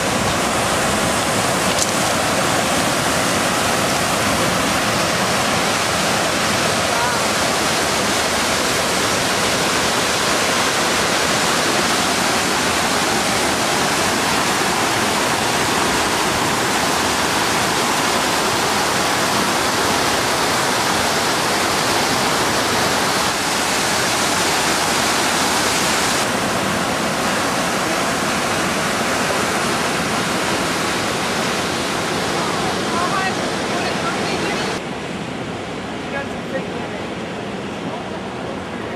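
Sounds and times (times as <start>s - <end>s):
river floodwater rushing: 0.0s - 38.9s.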